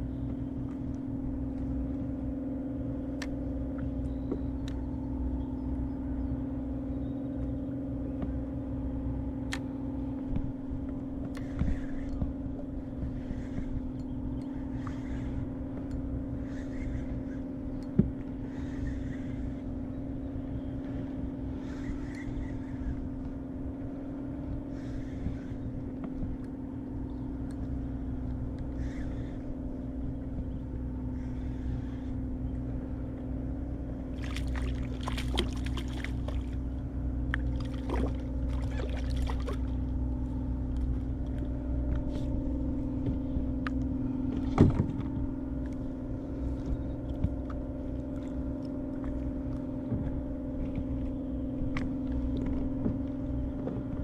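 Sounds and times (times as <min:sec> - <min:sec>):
boat motor droning: 0:00.0 - 0:54.0
soft water swishes: 0:10.2 - 0:54.0.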